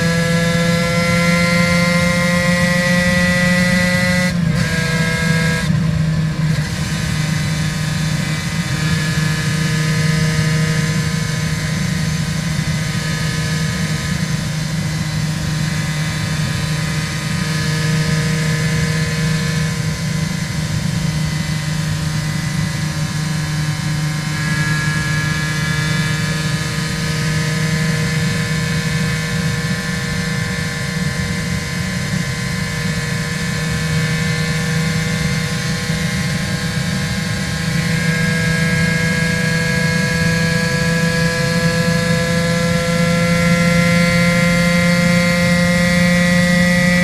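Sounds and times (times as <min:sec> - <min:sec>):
motorcycle engine riding: 0:00.0 - 0:47.0.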